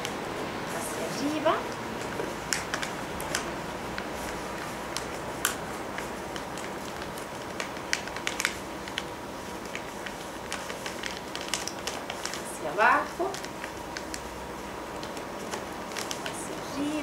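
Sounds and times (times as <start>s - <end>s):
wrapping paper crackling: 0.0s - 17.0s.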